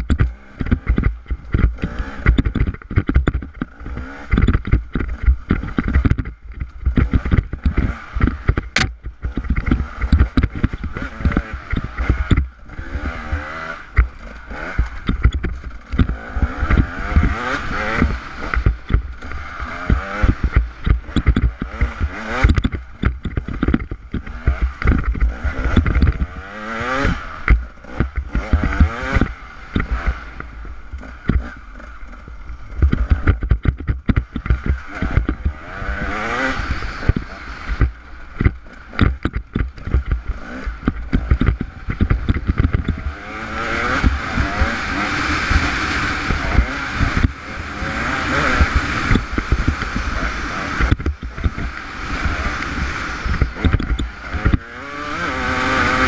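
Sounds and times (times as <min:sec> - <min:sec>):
knocks and rattles over bumps: 0:00.0 - 0:56.0
motorcycle engine revving: 0:00.0 - 0:56.0
wind rushing over microphone: 0:00.0 - 0:56.0.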